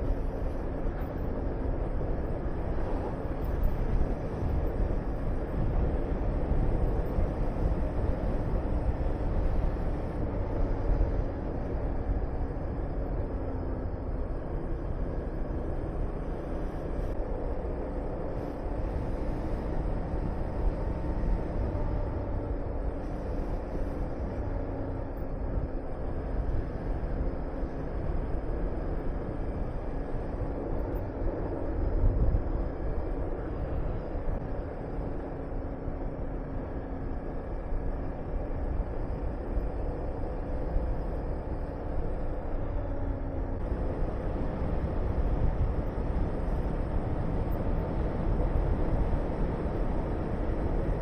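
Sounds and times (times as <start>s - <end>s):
wind rushing over microphone: 0.0s - 51.0s.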